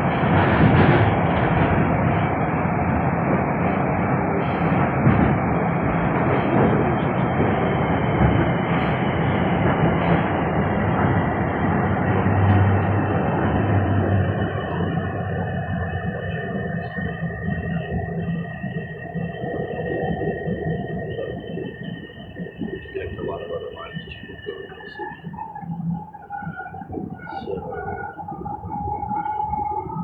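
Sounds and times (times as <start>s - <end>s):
subway train rumbling on track: 0.0s - 30.0s.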